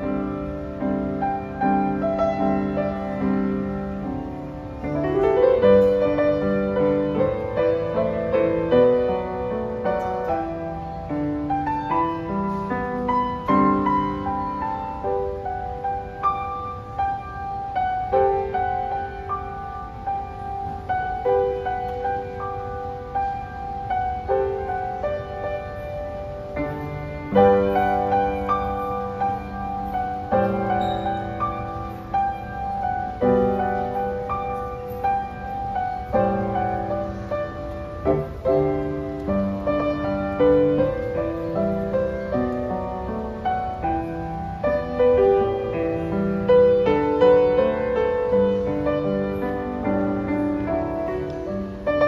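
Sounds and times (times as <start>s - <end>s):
slow solo piano piece: 0.0s - 52.0s.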